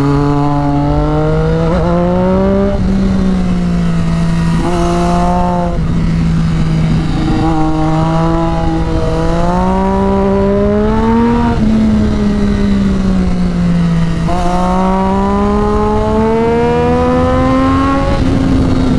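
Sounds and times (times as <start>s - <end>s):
motorcycle engine revving: 0.0s - 18.9s
wind on microphone: 0.0s - 18.9s.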